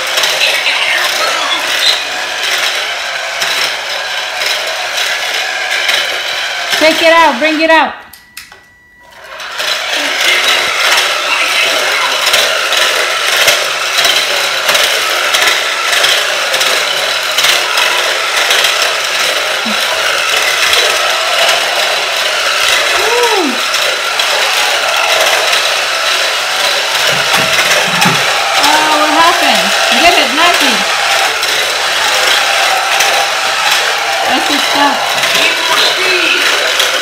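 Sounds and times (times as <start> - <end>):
toy car motors whirring: 0.0 - 7.8, 9.0 - 37.0.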